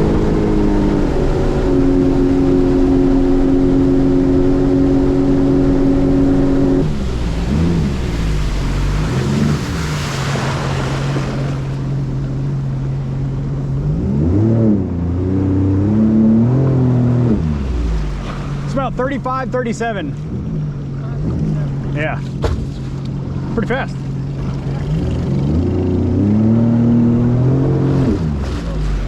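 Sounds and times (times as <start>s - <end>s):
boat engine running at high speed: 0.0s - 29.0s
rush of water or wind: 0.0s - 29.0s.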